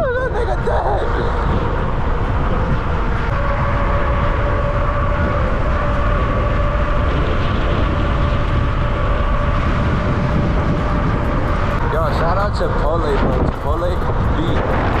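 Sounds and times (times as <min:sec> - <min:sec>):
electric motor whine: 0:00.0 - 0:12.7
wind buffeting microphone: 0:00.0 - 0:15.0.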